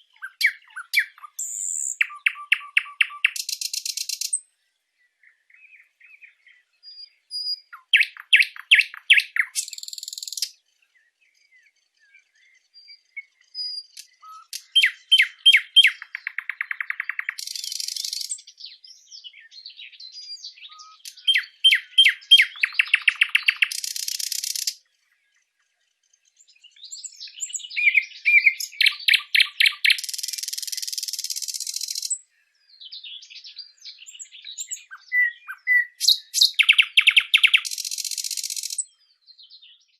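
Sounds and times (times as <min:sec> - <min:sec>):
songbird singing with buzzy trill: 0:00.0 - 0:39.9.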